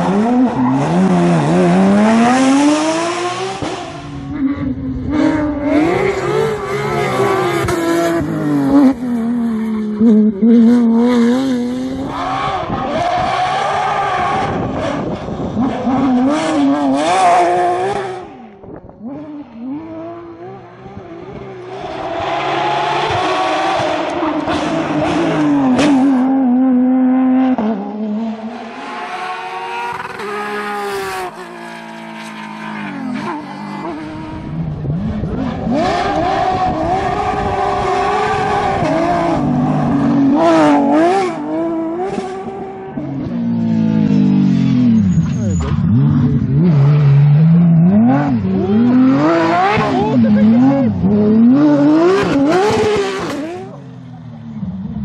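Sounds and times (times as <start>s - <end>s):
rally car engines at full throttle: 0.0s - 55.0s.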